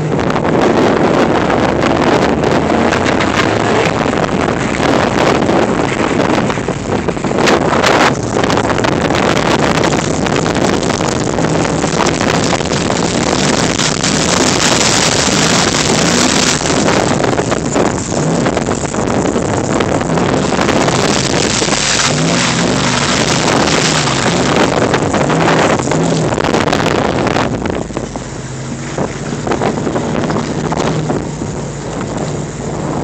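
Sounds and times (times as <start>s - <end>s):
vehicle engine running: 0.0s - 33.0s
wind noise on microphone: 0.0s - 33.0s.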